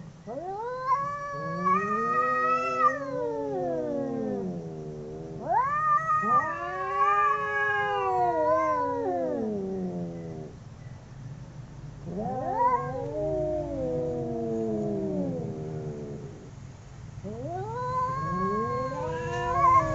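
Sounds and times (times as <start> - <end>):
cats caterwauling: 0.3 - 10.5, 12.0 - 16.5, 17.2 - 19.9.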